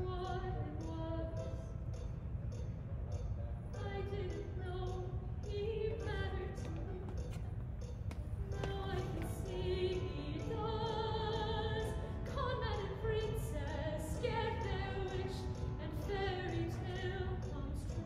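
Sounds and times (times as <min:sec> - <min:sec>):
musical accompaniment: 0:00.0 - 0:18.0.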